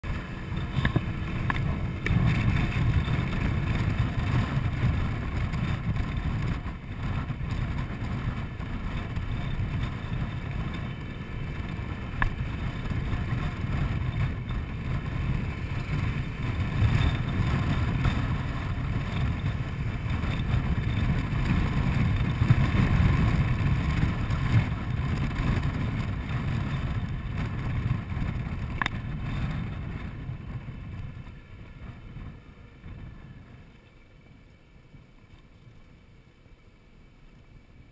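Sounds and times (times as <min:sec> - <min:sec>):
wind buffeting microphone: 0:00.0 - 0:34.3
scooter engine and road noise: 0:00.0 - 0:37.9.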